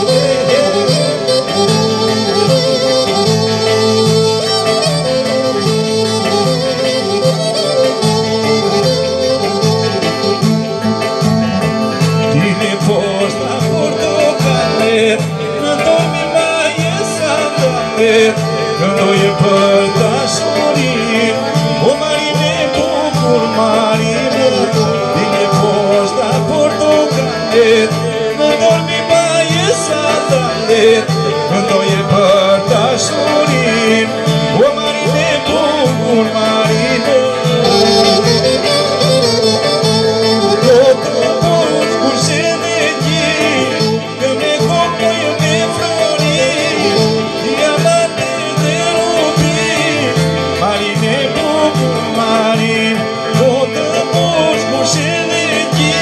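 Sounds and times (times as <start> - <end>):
clarinet melody: 0.0 - 56.0
man singing into microphone: 0.0 - 56.0.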